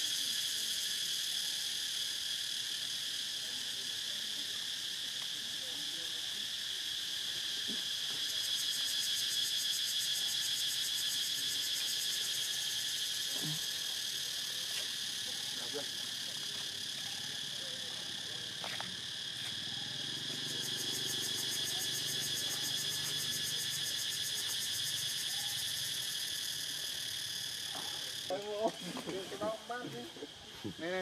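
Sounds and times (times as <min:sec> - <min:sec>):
insects buzzing chorus: 0:00.0 - 0:31.0.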